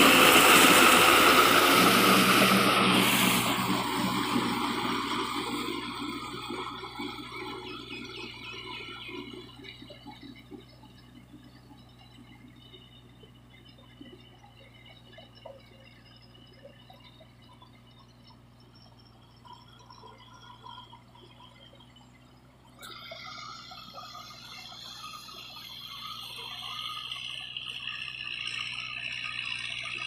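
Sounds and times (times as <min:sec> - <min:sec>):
tractor engine hum: 0:00.0 - 0:30.0.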